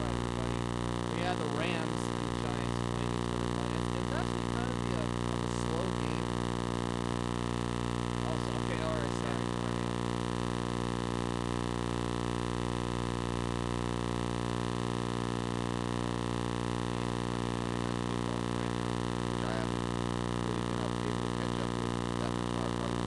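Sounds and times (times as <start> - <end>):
steady buzzing hum: 0.0 - 23.0.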